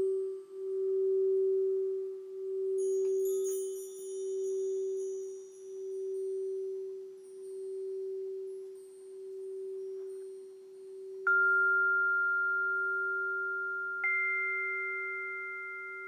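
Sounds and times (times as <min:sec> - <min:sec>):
faint high chime tones: 0:00.0 - 0:16.0
singing bowl low hum: 0:00.0 - 0:16.0.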